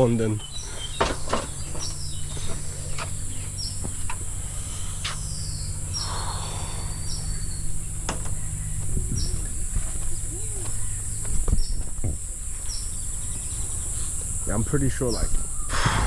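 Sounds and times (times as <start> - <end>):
birds chirping: 0.0 - 16.0
low rumble: 2.7 - 16.0.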